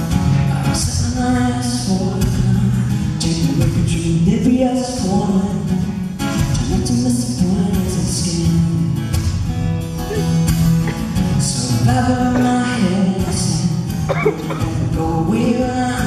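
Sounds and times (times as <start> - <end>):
man singing: 0.0 - 9.3, 11.0 - 16.0
acoustic guitar strumming: 0.0 - 16.0.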